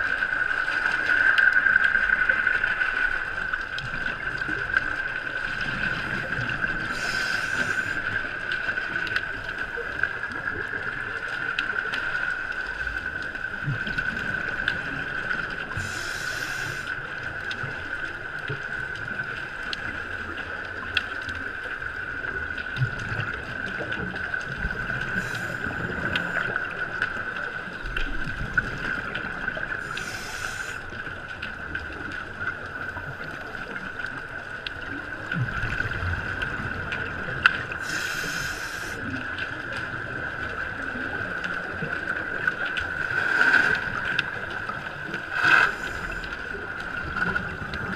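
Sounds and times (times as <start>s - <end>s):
low water rumble: 0.0s - 47.9s
underwater bubbles rushing up: 0.0s - 47.9s.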